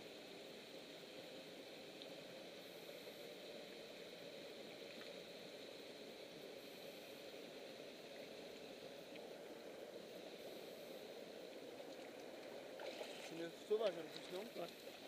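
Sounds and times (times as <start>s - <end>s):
mountain stream flowing: 0.0s - 15.0s.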